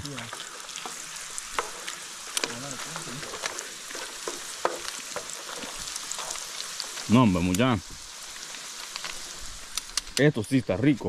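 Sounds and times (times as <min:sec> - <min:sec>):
tortillas sizzling in hot fat: 0:00.0 - 0:11.0.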